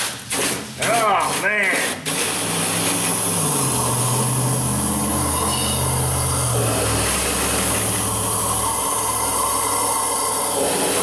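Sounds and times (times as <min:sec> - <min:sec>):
flush gun rushing hiss: 0:01.2 - 0:11.0.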